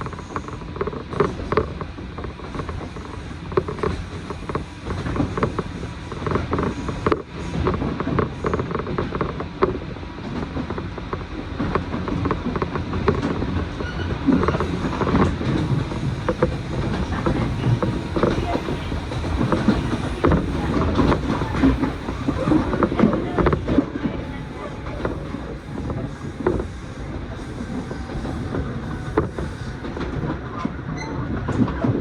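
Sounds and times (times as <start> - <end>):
train rumbling on track: 0.0 - 32.0.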